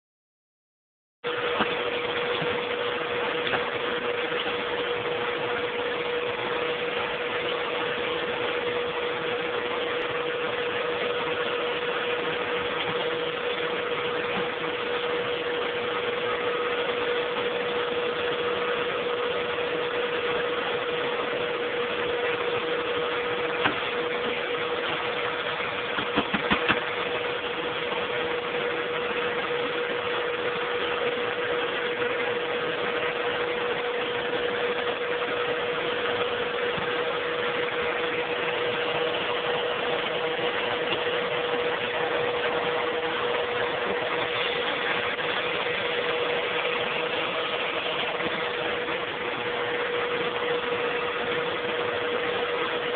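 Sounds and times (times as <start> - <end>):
vacuum cleaner running: 1.2 - 52.9.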